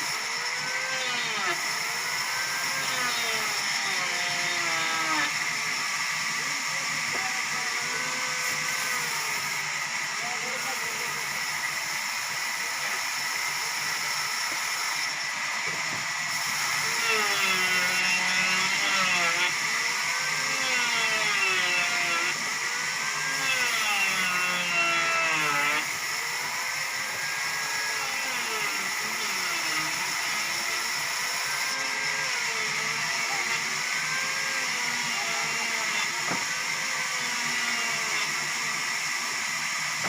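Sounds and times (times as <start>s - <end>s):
sawmill saw cutting log: 0.0s - 40.0s.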